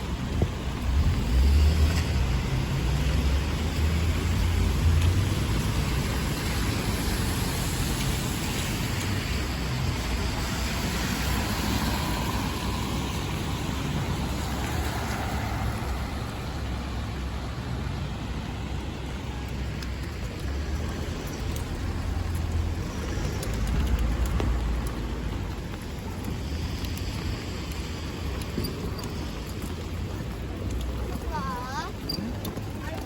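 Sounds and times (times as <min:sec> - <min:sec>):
steady rain falling: 0:00.0 - 0:33.0
traffic on wet streets: 0:00.0 - 0:33.0
vehicle low rumble: 0:00.0 - 0:33.0.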